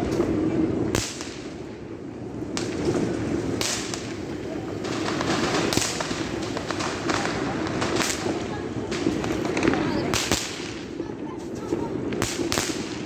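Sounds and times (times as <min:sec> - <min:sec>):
firework bangs: 0:00.0 - 0:13.0
firework crackling: 0:00.0 - 0:13.0.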